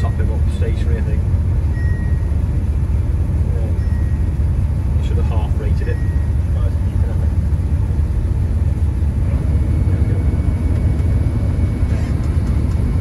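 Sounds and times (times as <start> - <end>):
combine harvester rumbling: 0.0 - 13.0.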